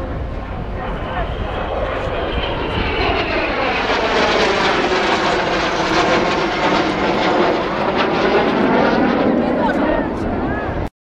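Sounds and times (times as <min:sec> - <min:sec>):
aircraft passing overhead: 0:00.0 - 0:10.9.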